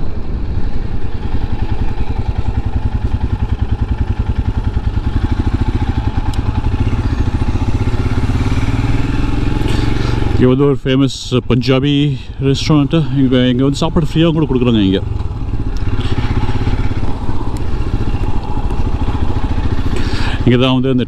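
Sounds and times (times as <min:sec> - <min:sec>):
motorcycle engine running at low revs: 0:00.0 - 0:10.6, 0:11.7 - 0:21.0.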